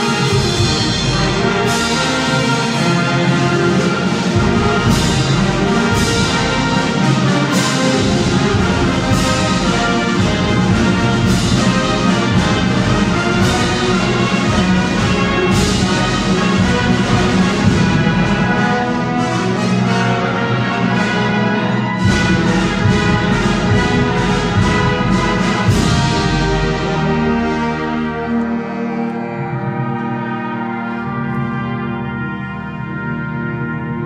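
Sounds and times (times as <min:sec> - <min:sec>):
wind band playing: 0:00.0 - 0:34.0.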